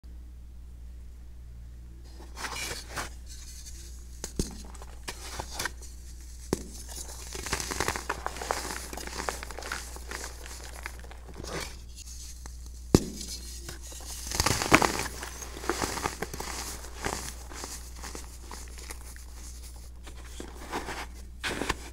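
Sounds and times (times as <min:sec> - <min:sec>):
hands crushing baking soda chunks: 0:02.3 - 0:21.9.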